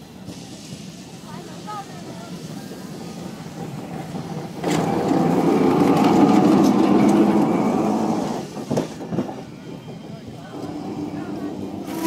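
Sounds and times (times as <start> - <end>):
street traffic noise: 0.0 - 12.0
tram wheels clicking and clattering: 0.0 - 12.0
tram wheels rumbling on rails: 0.0 - 12.0.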